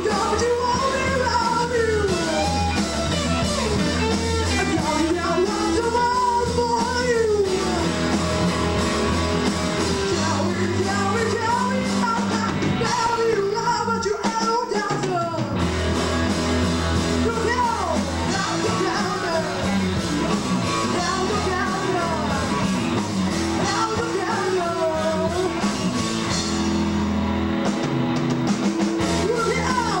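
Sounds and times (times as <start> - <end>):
electric guitar lead with bends: 0.0 - 13.2, 15.3 - 30.0
bass guitar: 0.0 - 30.0
drums: 0.0 - 30.0.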